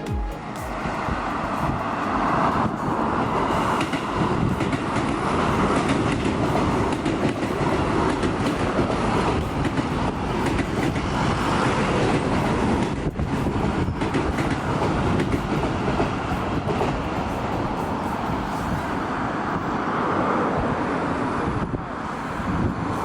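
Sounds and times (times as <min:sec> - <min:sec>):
electric train running past: 0:00.0 - 0:23.0.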